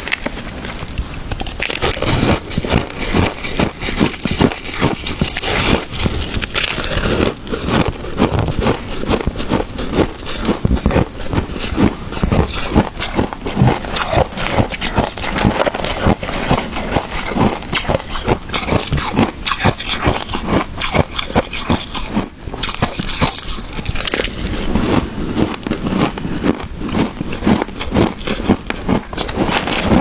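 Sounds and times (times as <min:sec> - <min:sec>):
shaved ice crunching when chewed: 0:00.0 - 0:30.0.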